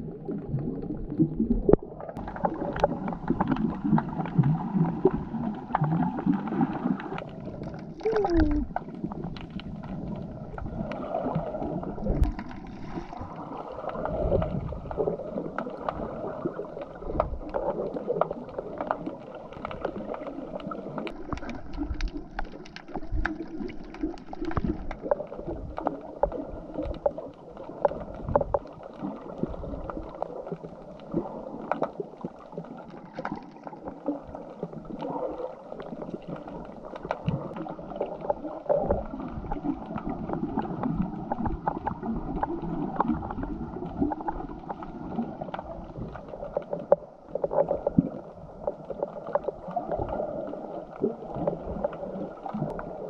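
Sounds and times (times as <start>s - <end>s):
water sloshing and gurgling: 0.0s - 53.0s
small clicks and crackles: 0.2s - 53.0s.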